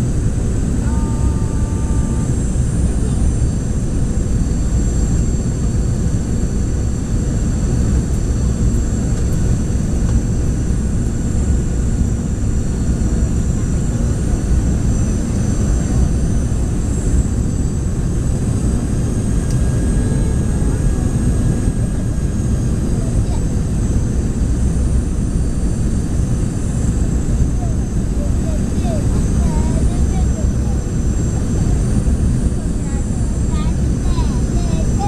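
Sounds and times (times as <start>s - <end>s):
airliner cabin rumble: 0.0s - 35.0s
jet engine whines: 0.0s - 35.0s.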